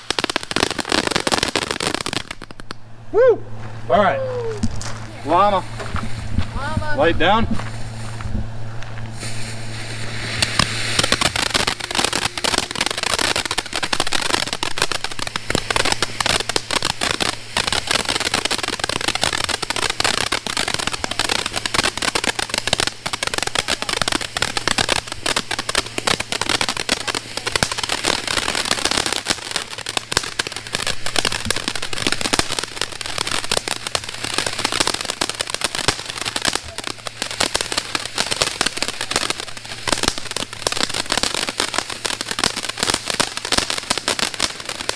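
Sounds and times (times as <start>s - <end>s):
firework hissing and crackling: 0.0s - 44.9s.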